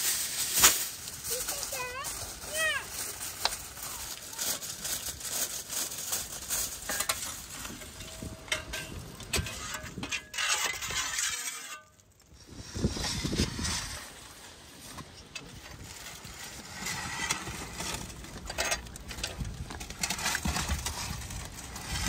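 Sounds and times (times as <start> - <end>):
aluminium foil crinkling: 0.0 - 12.3, 15.4 - 22.0.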